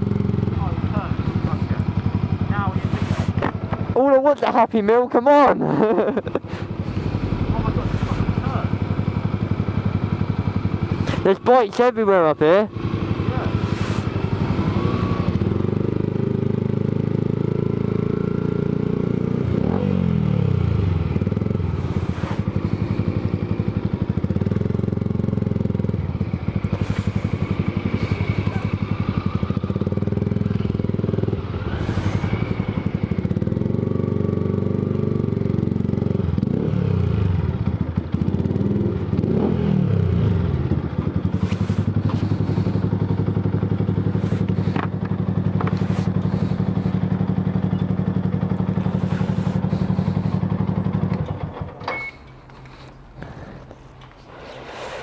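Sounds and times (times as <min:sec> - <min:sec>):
motorcycle engine revving and idling: 0:00.0 - 0:55.0.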